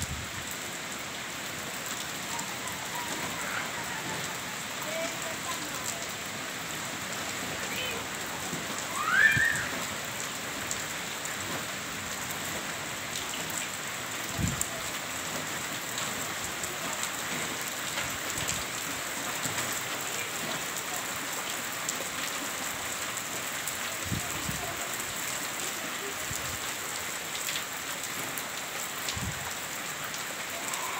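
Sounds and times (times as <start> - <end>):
heavy rain hissing: 0.0 - 30.9.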